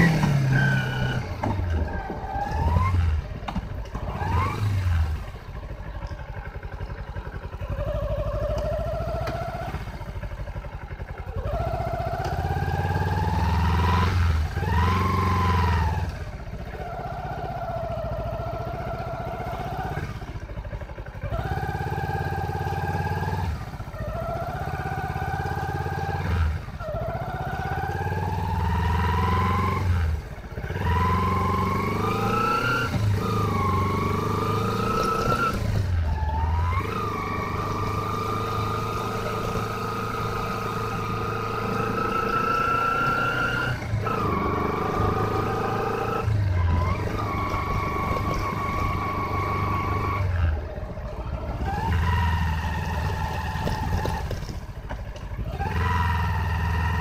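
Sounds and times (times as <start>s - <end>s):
motorcycle engine revving through gears: 0.0s - 57.0s.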